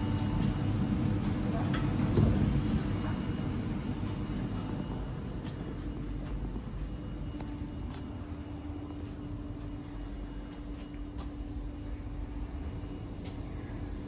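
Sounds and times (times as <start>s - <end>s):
train diesel engine hum: 0.0s - 14.0s.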